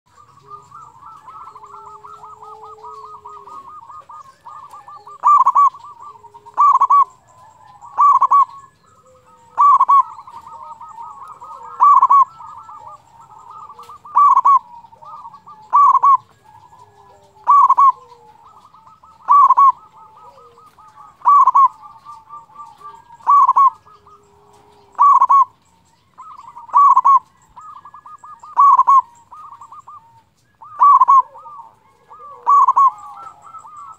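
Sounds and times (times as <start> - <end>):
dove cooing: 0.1 - 33.9.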